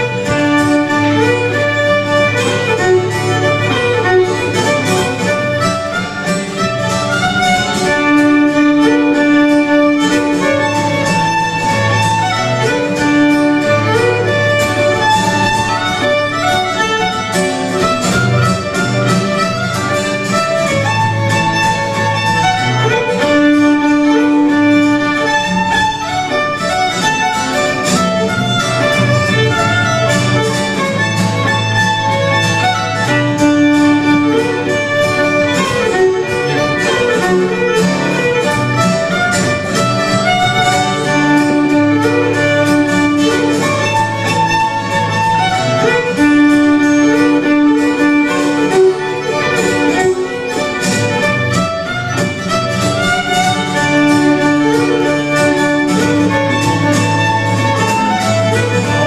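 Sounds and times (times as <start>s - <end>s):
fiddle melody: 0.0s - 59.0s
guitar rhythm: 0.0s - 59.0s.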